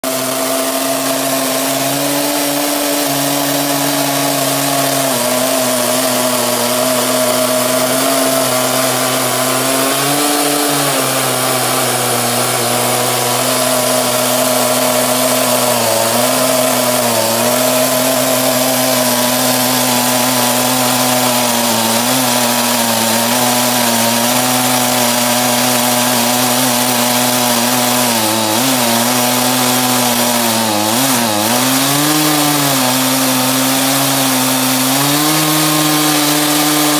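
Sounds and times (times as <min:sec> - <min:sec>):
chainsaw cutting a log: 0:00.0 - 0:36.9.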